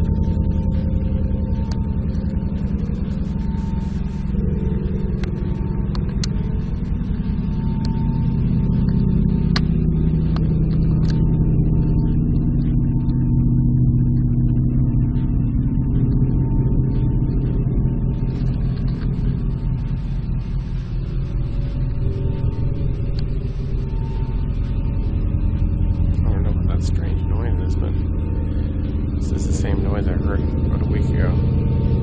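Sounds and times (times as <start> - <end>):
loud low layered drone: 0.0 - 32.0.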